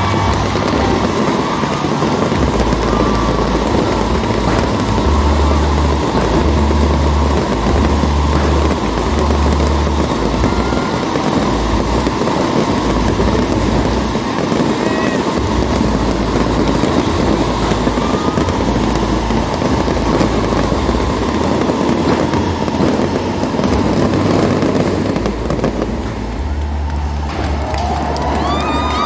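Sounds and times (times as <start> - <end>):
deep rumbling booms: 0.0 - 29.0
fireworks crackling and popping: 0.0 - 29.0.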